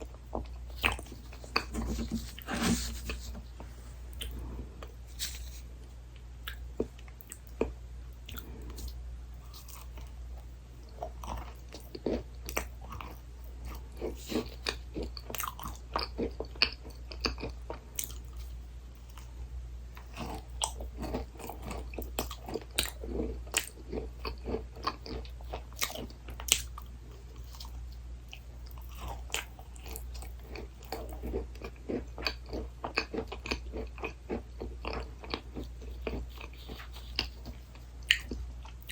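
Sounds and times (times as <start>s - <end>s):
person chewing crisp food: 0.0s - 5.7s, 6.4s - 38.9s
low steady hum: 0.0s - 38.9s.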